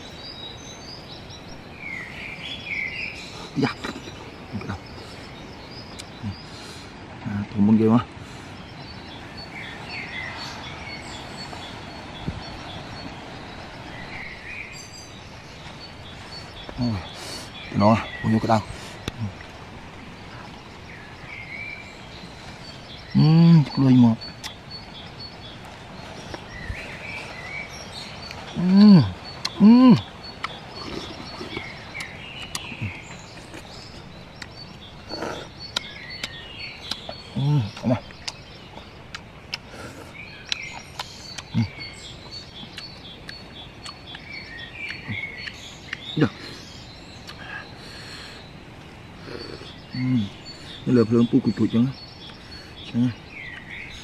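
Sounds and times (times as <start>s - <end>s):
birds chirping: 0.0s - 54.0s
steady background hiss: 0.0s - 54.0s.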